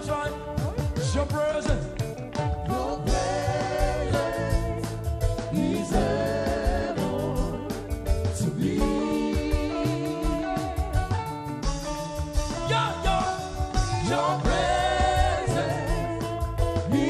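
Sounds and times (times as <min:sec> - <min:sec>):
band playing: 0:00.0 - 0:17.0
steady drum beats: 0:00.0 - 0:17.0.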